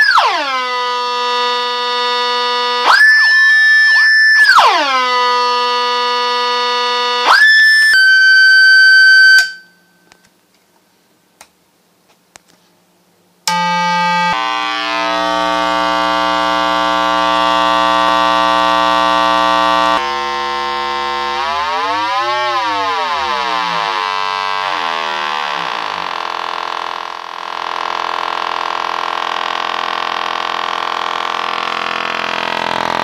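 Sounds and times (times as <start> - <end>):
buzzing square-wave tone: 0.0 - 10.2, 13.4 - 33.0.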